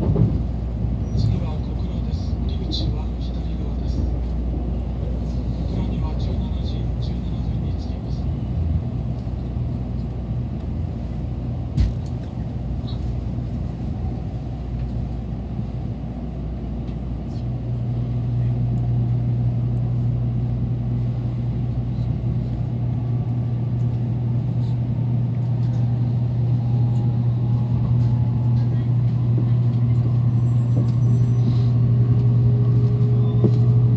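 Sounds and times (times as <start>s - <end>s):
train running hum and rumble: 0.0s - 33.9s.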